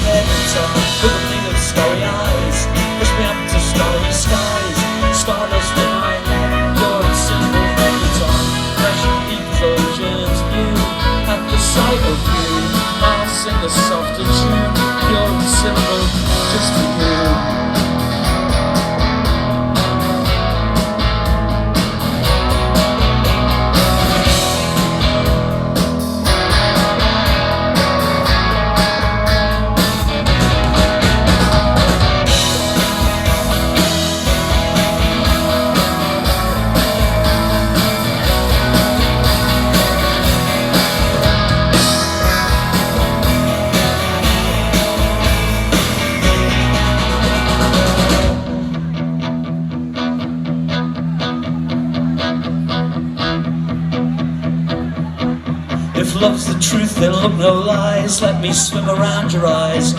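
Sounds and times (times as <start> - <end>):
electric guitar: 0.0 - 59.9
pop-rock band playing: 0.0 - 59.9.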